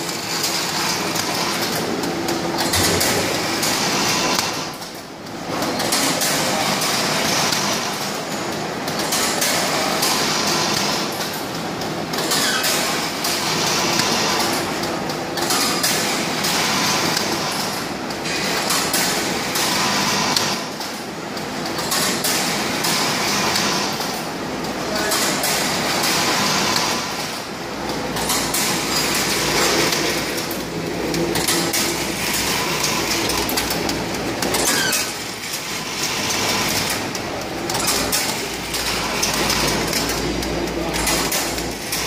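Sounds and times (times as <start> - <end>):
packing machine clatter: 0.0 - 42.0.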